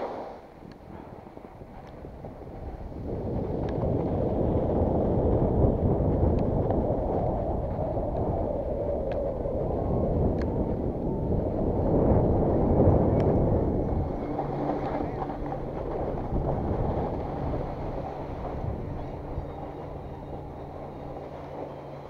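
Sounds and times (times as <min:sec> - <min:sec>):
skis running over snow: 0:00.0 - 0:08.4, 0:11.9 - 0:22.0
wind rushing over microphone: 0:00.0 - 0:22.0.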